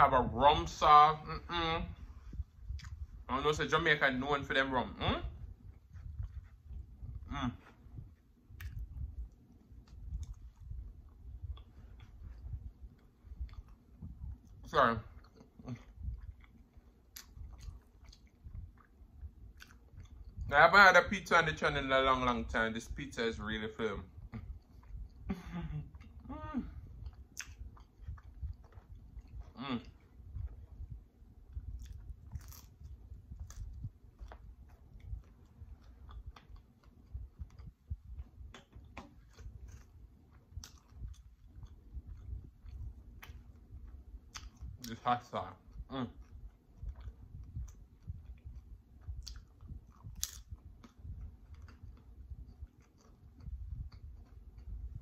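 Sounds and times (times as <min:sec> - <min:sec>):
chewing pizza: 0:00.2 - 0:55.0.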